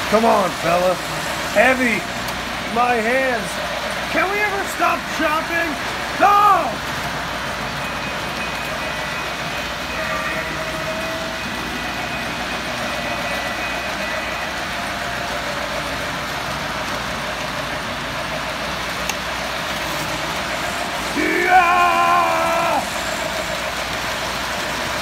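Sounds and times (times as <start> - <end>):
model train wheels rolling: 0.0 - 25.0.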